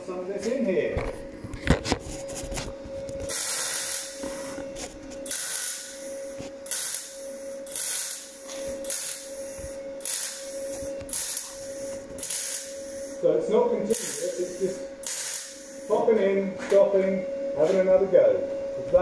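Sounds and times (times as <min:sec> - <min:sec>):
welder arc crackling and hissing: 0:00.0 - 0:16.4
cooling fan whine: 0:00.0 - 0:19.0.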